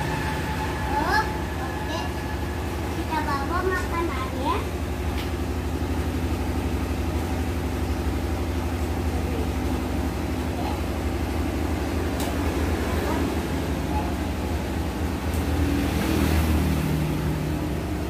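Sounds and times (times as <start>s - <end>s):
motor running with low hum: 0.0s - 18.0s.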